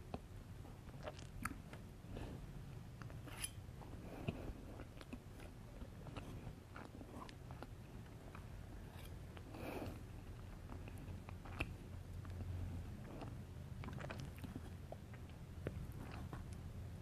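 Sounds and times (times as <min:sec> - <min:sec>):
chewing cake: 0:00.0 - 0:17.0.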